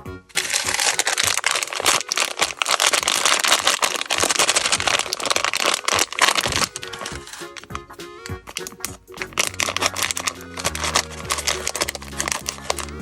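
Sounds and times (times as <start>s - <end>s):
crinkly plastic packaging crackling: 0.3s - 13.0s.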